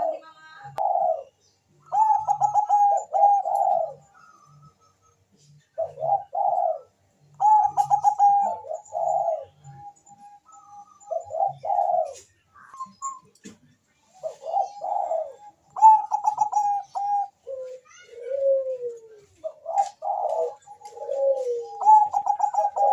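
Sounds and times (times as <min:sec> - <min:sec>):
dove cooing: 0:00.0 - 0:13.3, 0:14.1 - 0:22.9.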